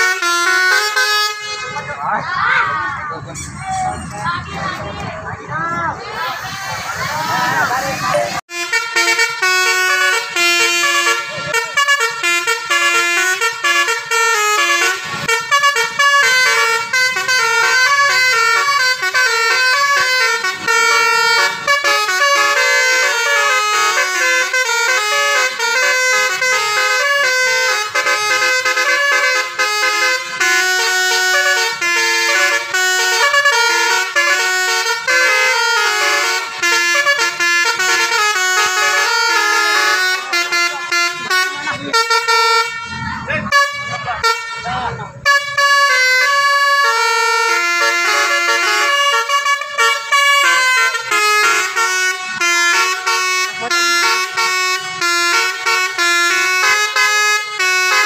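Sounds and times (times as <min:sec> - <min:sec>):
multi-tone bus horn melody: 0:00.0 - 0:02.2, 0:03.1 - 0:05.3, 0:05.9 - 0:58.0.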